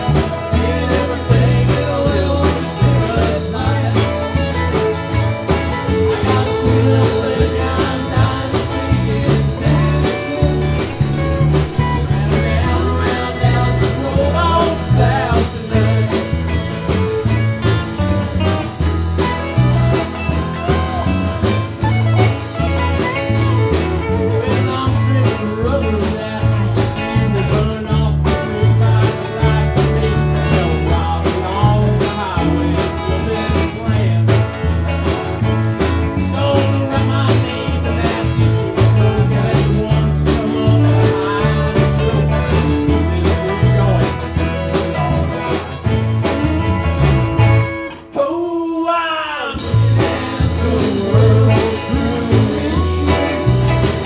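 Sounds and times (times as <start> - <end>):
guitar bending notes: 0.0 - 48.2
country band playing: 0.0 - 54.0.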